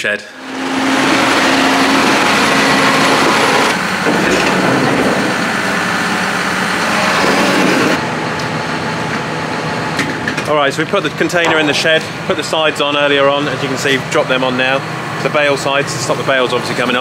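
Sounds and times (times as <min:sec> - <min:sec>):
tractor diesel engine running: 0:00.4 - 0:17.0.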